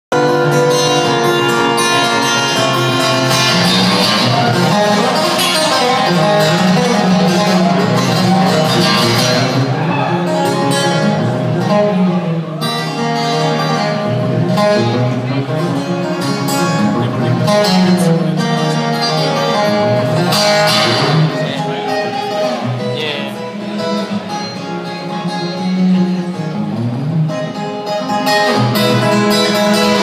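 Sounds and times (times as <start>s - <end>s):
distant live band music: 0.1s - 30.0s
lead guitar playing: 0.1s - 30.0s.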